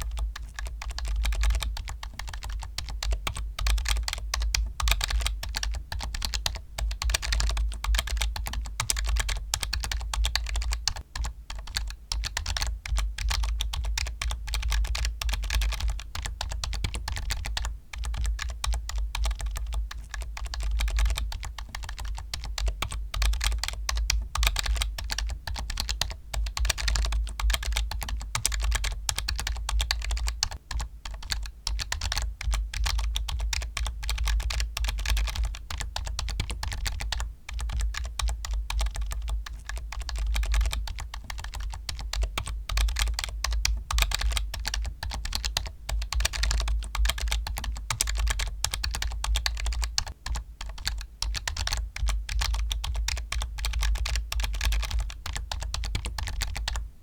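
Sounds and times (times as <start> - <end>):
keyboard typing: 0.0 - 56.9.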